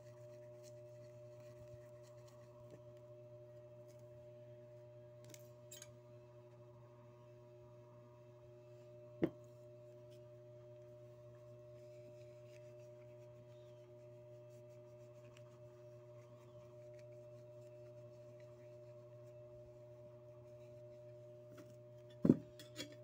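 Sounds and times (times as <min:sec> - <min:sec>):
faint steady tones: 0:00.0 - 0:22.1.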